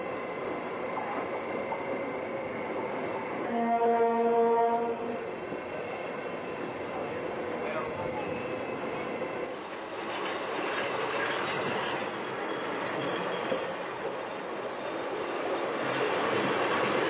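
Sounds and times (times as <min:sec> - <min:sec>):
train coaches passing: 0:00.0 - 0:17.0.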